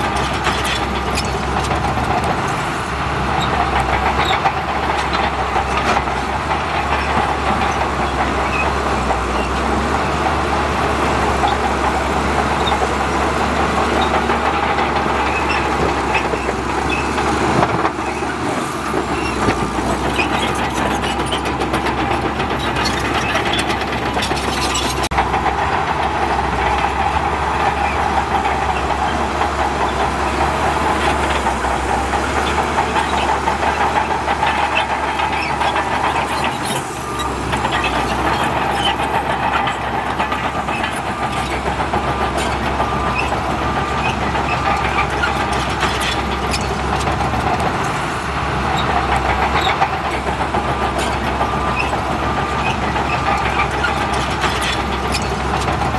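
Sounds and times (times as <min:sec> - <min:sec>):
heavy diesel machinery running: 0:00.0 - 0:55.9.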